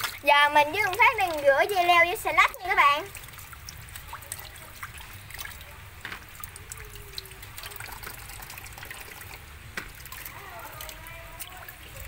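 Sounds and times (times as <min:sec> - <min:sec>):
water splashing in a metal basin: 0:00.0 - 0:12.0.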